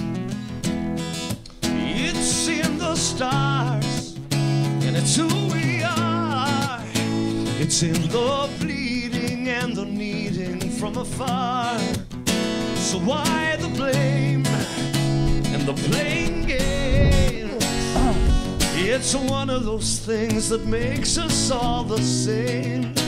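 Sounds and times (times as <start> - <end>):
strummed acoustic guitar: 0.0 - 23.0
person singing: 1.7 - 11.9, 12.8 - 23.0.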